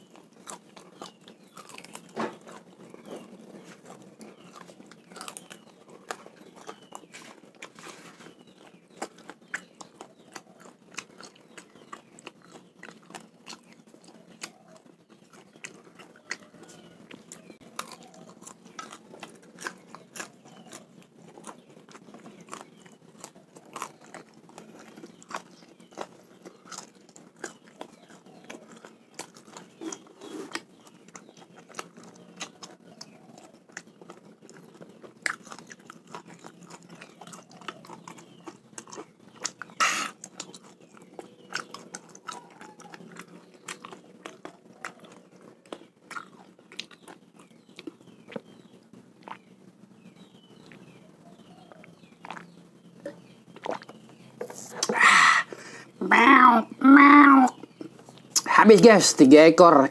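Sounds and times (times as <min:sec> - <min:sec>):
man chewing raw fish: 0:00.0 - 0:49.5, 0:50.2 - 0:56.0
mouth and teeth clicks: 0:00.0 - 0:49.5, 0:50.6 - 0:56.3, 0:57.0 - 0:58.9.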